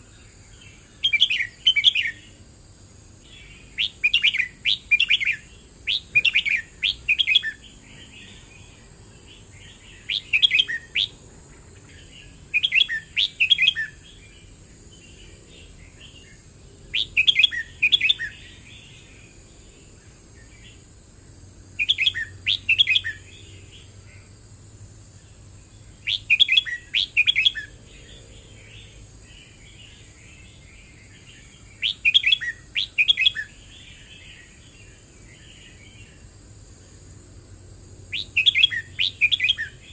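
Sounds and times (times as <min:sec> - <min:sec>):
faint high-pitched hiss: 0:00.0 - 0:39.9.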